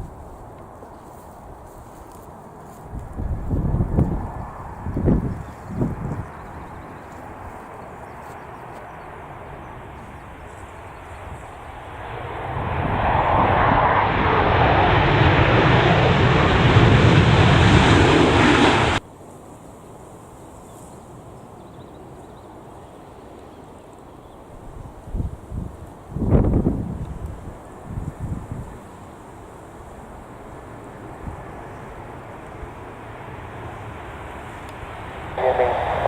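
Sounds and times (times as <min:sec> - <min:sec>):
jet airliner engine whine: 0:00.0 - 0:19.0, 0:25.8 - 0:36.0
low wind rush: 0:00.0 - 0:19.1, 0:24.5 - 0:36.0.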